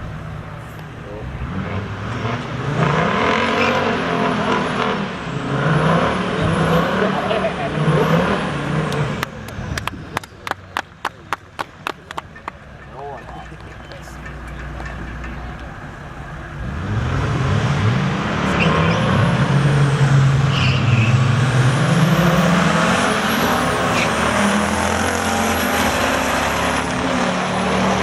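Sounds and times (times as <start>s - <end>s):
diesel engine accelerating: 0.0s - 28.0s.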